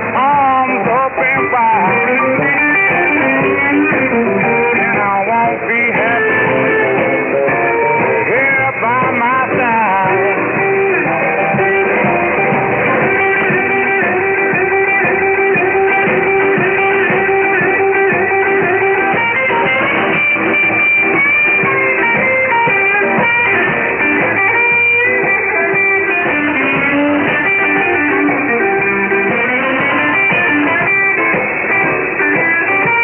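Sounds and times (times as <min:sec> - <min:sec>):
guitar music over radio: 0:00.0 - 0:33.0.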